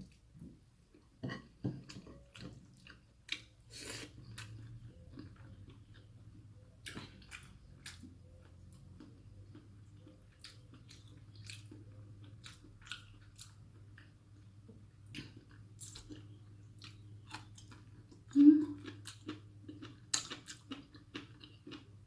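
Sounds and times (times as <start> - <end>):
person chewing food: 0.9 - 22.0.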